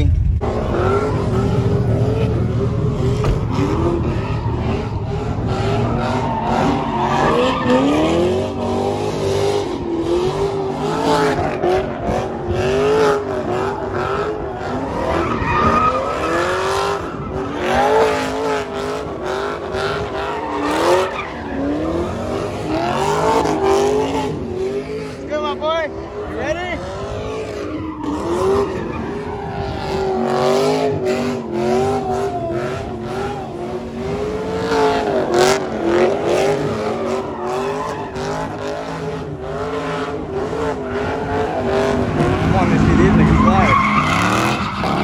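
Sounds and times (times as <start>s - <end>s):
car engine revving: 0.0s - 45.0s
tires screeching: 0.0s - 45.0s.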